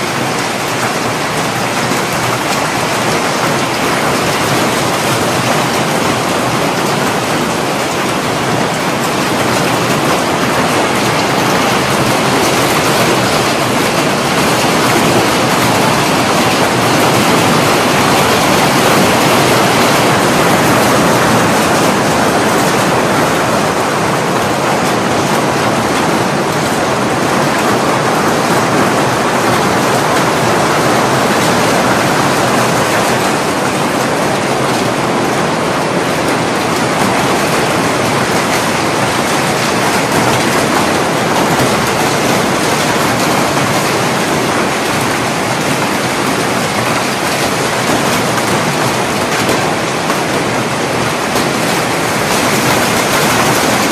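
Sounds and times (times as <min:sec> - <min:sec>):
hail and rain pelting down: 0:00.0 - 0:53.9.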